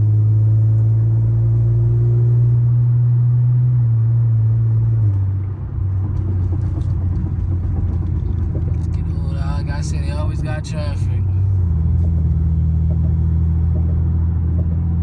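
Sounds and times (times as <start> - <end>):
car engine and exhaust drone: 0.0 - 15.0.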